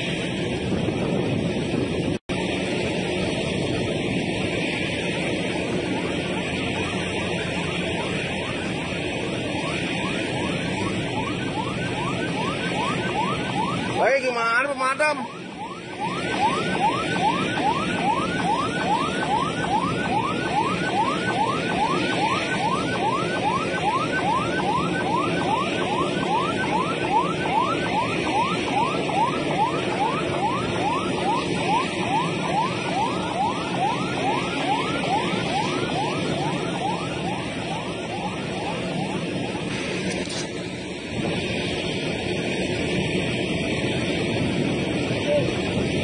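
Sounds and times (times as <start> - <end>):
emergency siren wailing: 0.0 - 46.0.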